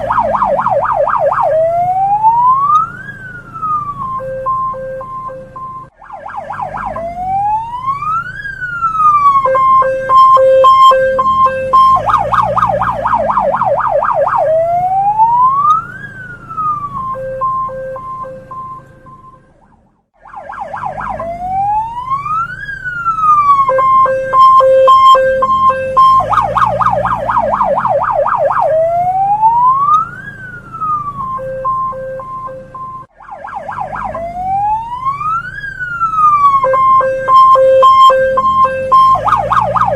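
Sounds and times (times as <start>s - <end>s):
police siren cycling tones: 0.0s - 39.9s.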